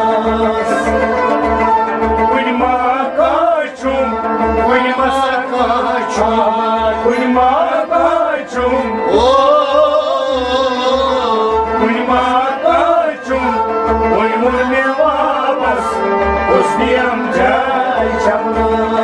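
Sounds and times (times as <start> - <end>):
held accompanying tones: 0.0 - 19.0
man singing: 0.0 - 19.0.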